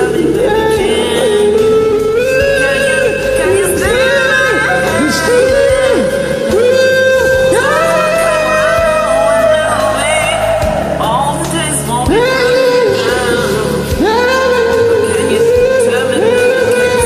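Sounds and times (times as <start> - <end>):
duet singing: 0.0 - 17.0
r and b backing track: 0.0 - 17.0.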